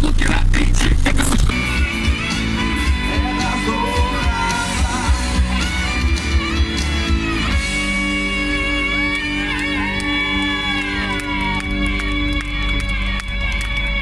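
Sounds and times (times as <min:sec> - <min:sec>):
heavy bass beat: 0:00.0 - 0:14.0
song with singing and guitar: 0:01.5 - 0:13.9.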